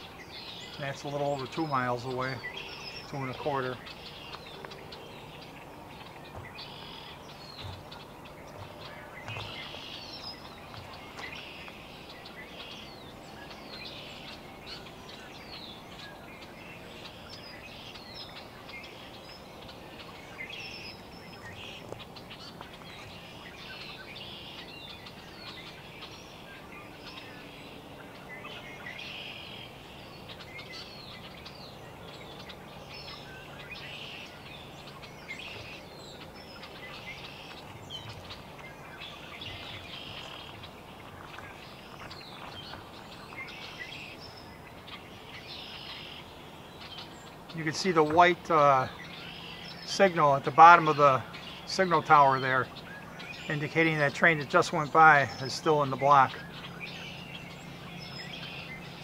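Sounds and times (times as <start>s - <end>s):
low outdoor background hum: 0.0s - 59.0s
small birds chirping: 0.0s - 59.0s.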